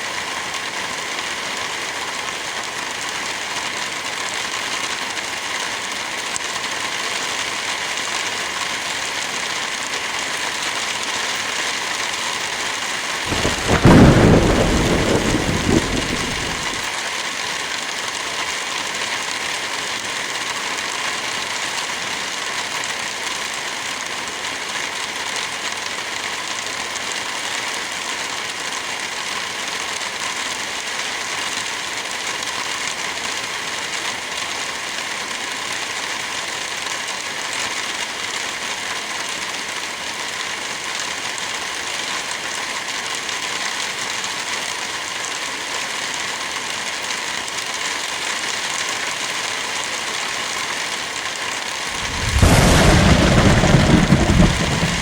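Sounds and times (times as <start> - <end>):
heavy rain falling: 0.2 - 45.2, 47.1 - 55.0.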